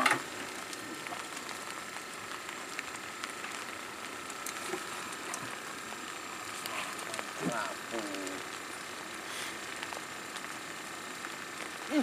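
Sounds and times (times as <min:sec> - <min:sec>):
rain falling on water: 0:00.0 - 0:12.0
raindrop ticks: 0:00.0 - 0:12.0.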